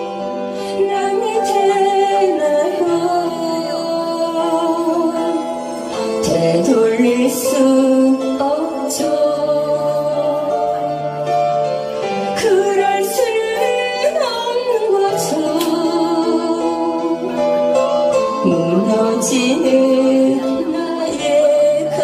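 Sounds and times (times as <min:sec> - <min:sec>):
woman singing into a microphone: 0:00.0 - 0:11.2, 0:12.3 - 0:17.6, 0:18.4 - 0:22.0.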